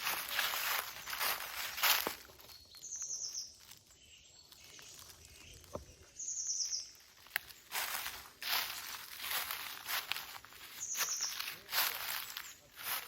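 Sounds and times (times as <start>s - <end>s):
footsteps crunching through dry leaves: 0.0s - 13.0s.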